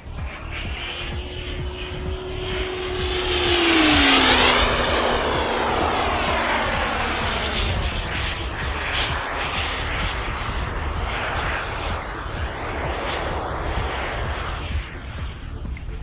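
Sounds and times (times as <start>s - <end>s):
jet turbine whine: 0.0s - 16.0s
rush of jet noise: 0.0s - 16.0s.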